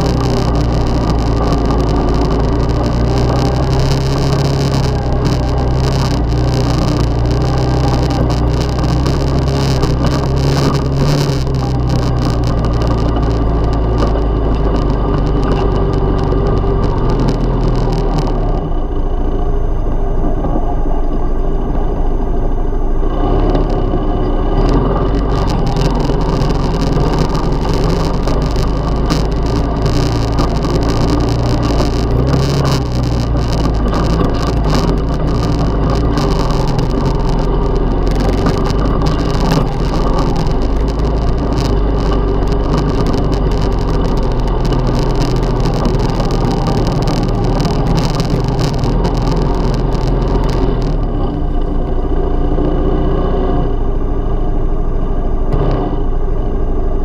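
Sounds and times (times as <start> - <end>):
atv engine running: 0.0 - 54.5.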